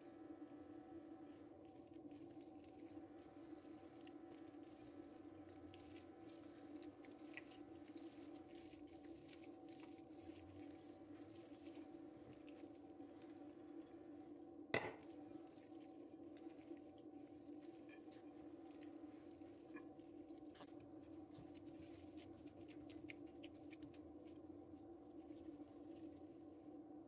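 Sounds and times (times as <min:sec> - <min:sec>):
hand kneading wet dough: 0:00.1 - 0:27.0.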